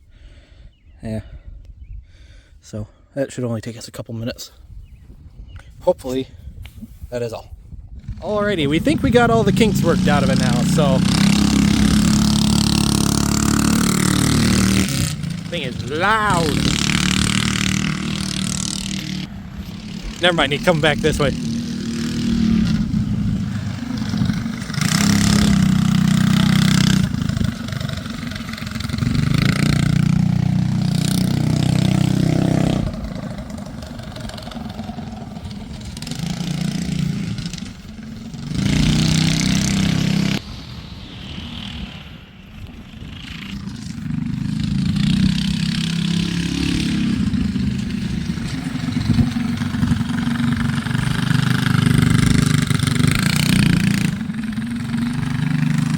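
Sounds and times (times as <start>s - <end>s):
small gas engine revving: 8.0s - 55.9s.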